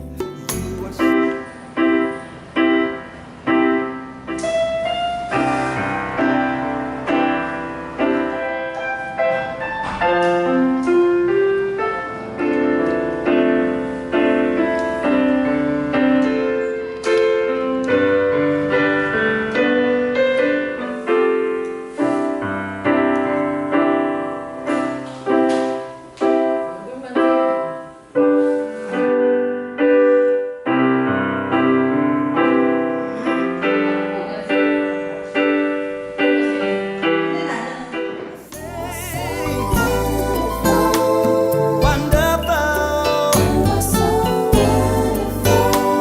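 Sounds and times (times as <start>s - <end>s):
piano playing chords and melody: 0.0s - 46.0s.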